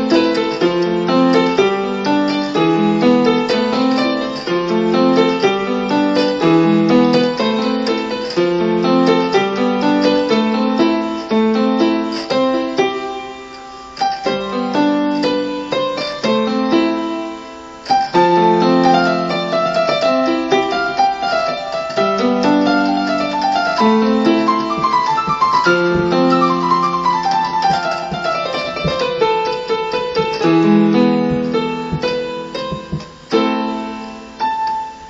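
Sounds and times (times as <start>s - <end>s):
electronic keyboard piano chords: 0.0s - 35.0s.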